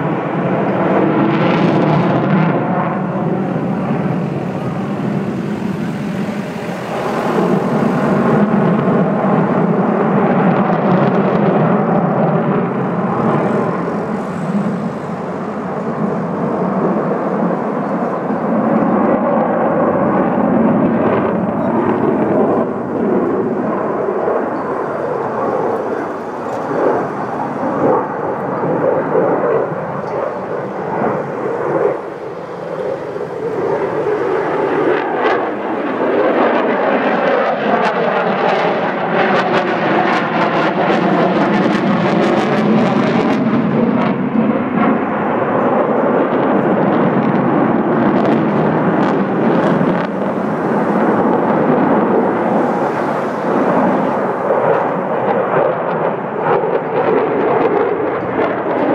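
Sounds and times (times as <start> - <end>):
fighter jet flying overhead: 0.0 - 58.9.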